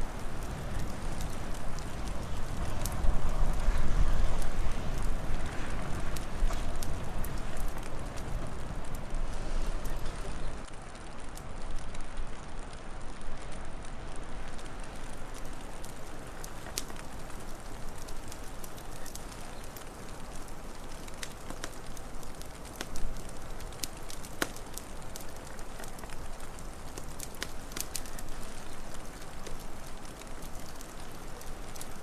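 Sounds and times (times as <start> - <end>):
fire pops and snaps: 0.0 - 32.0
wood fire crackling: 0.0 - 32.0.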